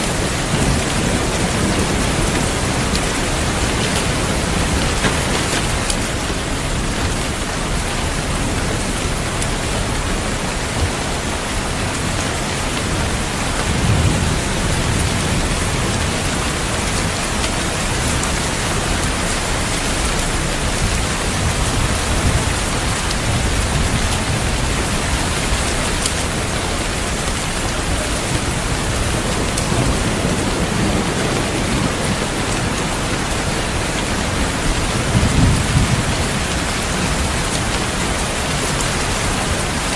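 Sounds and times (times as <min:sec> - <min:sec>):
distant thunder rolling: 0:00.0 - 0:39.9
heavy rain: 0:00.0 - 0:39.9.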